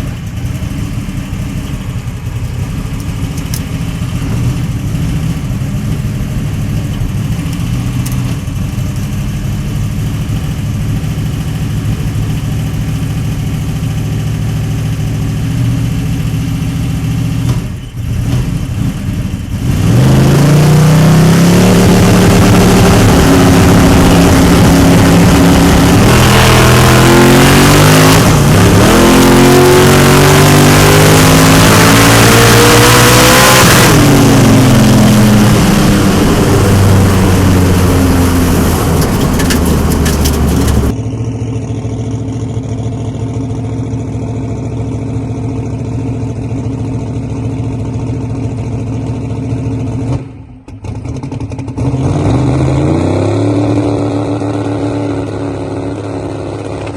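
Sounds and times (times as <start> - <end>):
car engine accelerating hard: 0.0 - 41.0, 49.9 - 56.9
engine running steadily: 0.0 - 51.9.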